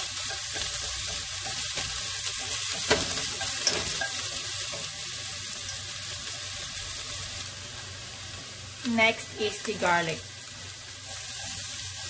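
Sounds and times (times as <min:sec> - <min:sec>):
shallots sizzling in oil: 0:00.0 - 0:12.0.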